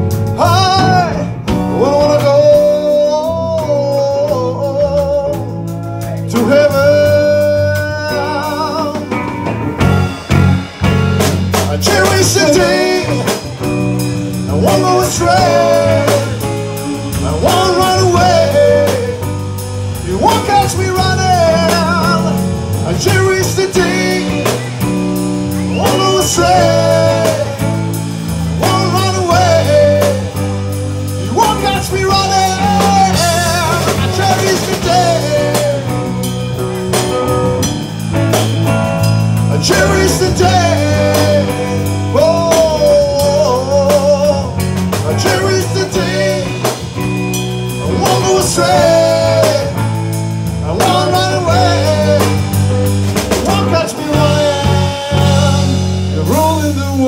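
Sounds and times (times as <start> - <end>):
bass: 0.0 - 57.0
drum kit: 0.0 - 57.0
electric guitar: 0.0 - 57.0
person singing: 0.3 - 9.4, 11.6 - 37.9, 39.4 - 47.1, 47.7 - 57.0.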